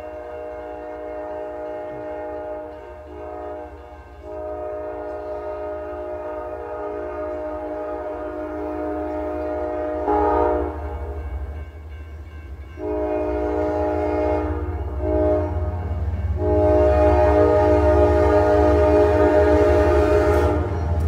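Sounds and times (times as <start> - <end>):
train air horn blasts: 0.0 - 11.3, 12.8 - 21.0
diesel locomotive rumble: 0.0 - 21.0.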